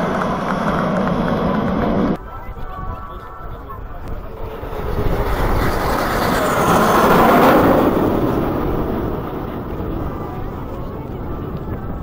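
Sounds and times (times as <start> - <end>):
jets flying past overhead: 0.0 - 12.0.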